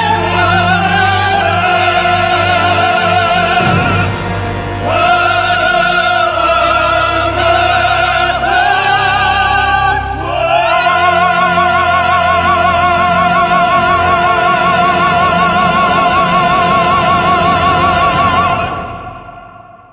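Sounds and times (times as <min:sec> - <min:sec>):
low accompaniment: 0:00.0 - 0:19.2
operatic singer holding notes: 0:00.0 - 0:19.8.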